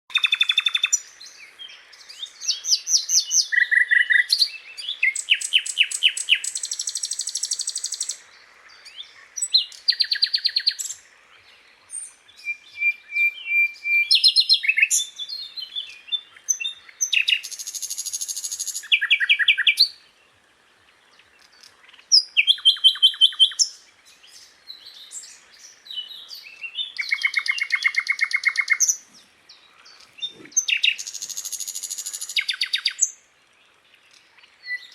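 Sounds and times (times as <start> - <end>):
bird singing trills: 0.1 - 20.1, 21.0 - 33.2, 33.8 - 34.9.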